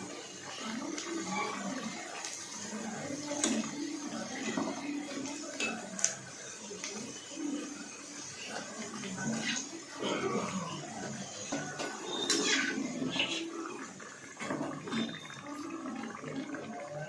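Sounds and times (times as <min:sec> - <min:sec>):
onion rings sizzling in oil: 0:00.0 - 0:17.0.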